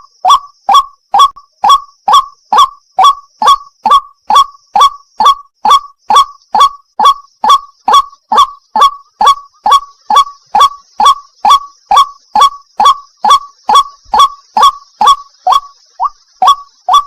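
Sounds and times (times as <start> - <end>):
waterbird harsh calls: 0.0 - 17.0.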